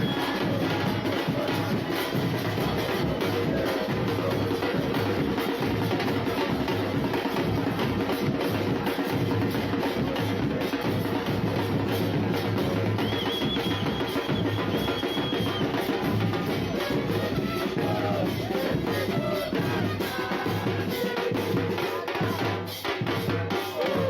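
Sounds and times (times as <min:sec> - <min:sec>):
drum-heavy music: 0:00.0 - 0:24.0.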